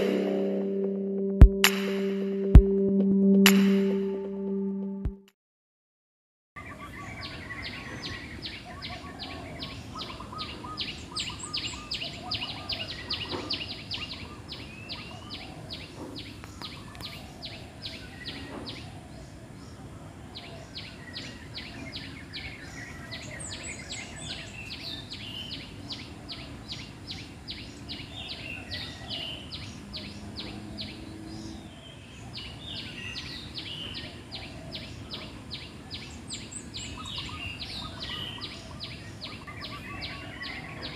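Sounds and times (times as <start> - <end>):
outdoor background noise: 6.6 - 40.9.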